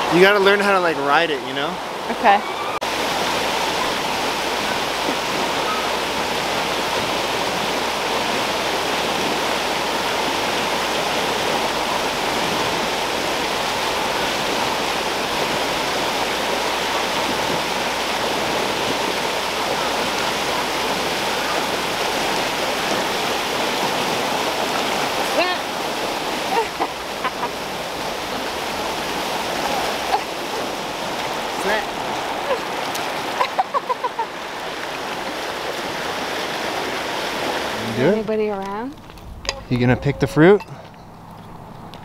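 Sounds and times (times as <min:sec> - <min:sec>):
creek water rushing over ledges: 0:00.0 - 0:42.0.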